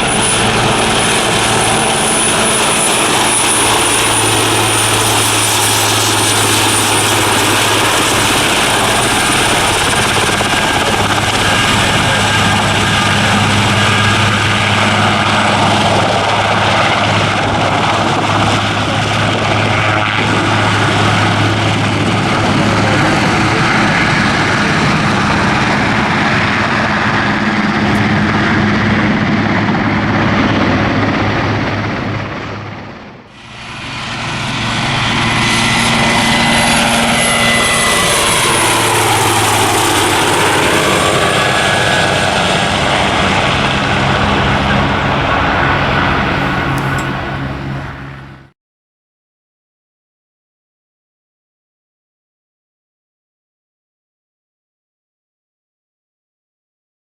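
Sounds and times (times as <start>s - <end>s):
aircraft engine running: 0.0s - 48.5s.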